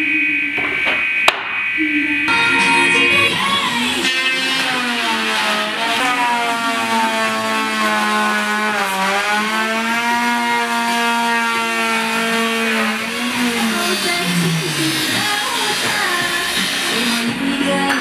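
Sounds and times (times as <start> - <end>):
electric router whining: 2.3 - 17.6.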